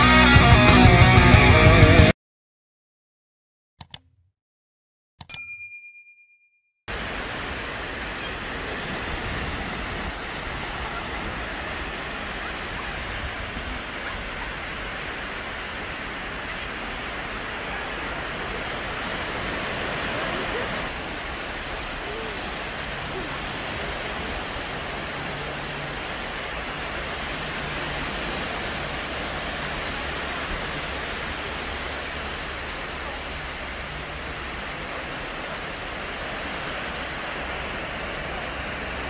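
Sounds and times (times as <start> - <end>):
waves breaking on sandy shore: 6.9 - 39.0.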